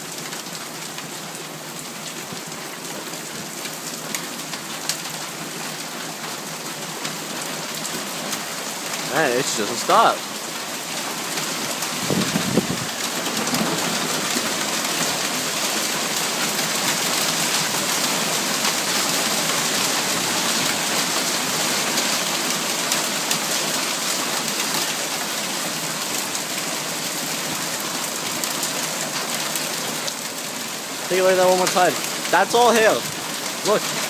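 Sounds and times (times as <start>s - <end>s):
hail and rain pelting: 0.0s - 34.0s.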